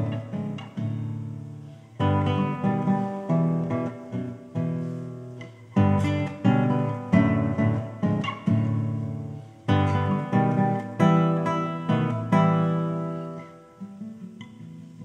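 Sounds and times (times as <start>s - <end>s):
classical guitar chords: 0.0s - 15.0s.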